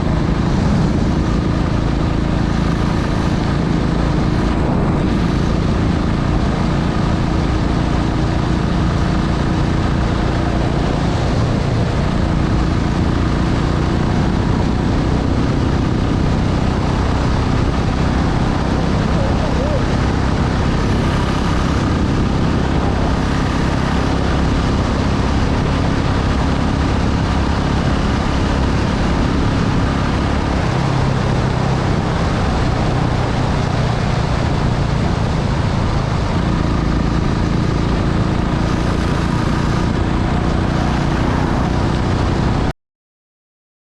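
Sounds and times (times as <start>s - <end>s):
motorcycle engine running: 0.0s - 42.7s
wind noise on microphone: 0.0s - 42.7s.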